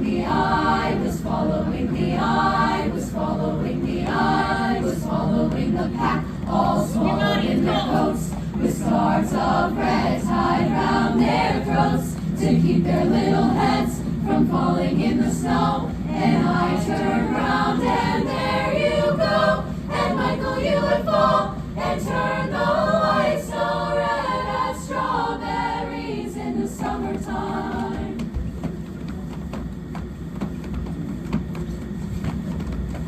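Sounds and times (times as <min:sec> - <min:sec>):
children's choir singing: 0:00.0 - 0:28.4
low background hum: 0:00.0 - 0:33.0.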